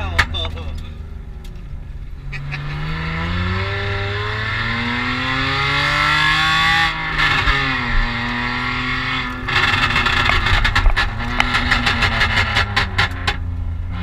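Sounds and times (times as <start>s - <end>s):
car engine accelerating hard: 1.0s - 14.0s.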